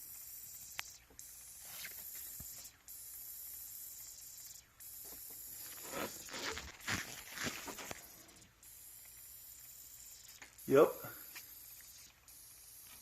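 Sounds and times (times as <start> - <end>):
high-pitched fuel hiss: 0.0 - 13.0.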